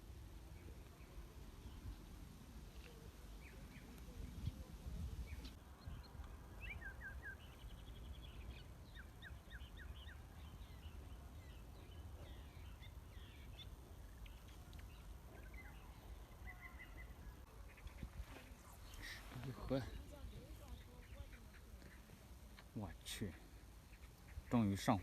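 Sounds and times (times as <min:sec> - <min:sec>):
small birds chirping and trilling: 0:00.5 - 0:25.0.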